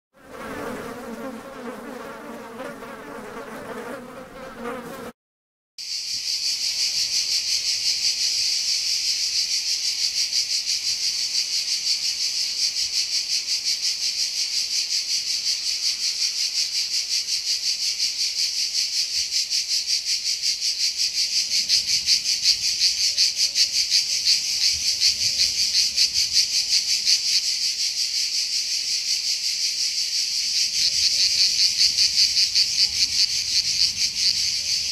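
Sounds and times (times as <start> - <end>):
insects calling in chorus: 5.8 - 34.9.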